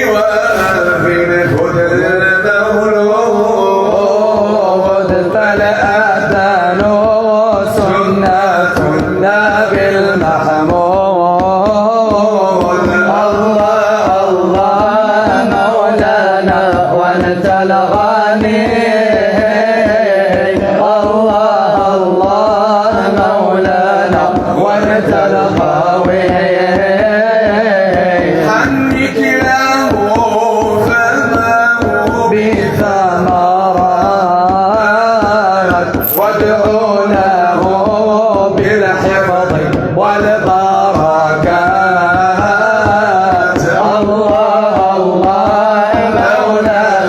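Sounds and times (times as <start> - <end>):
fast steady drum beat: 0.0 - 47.0
person singing ornamented melody: 0.0 - 47.0.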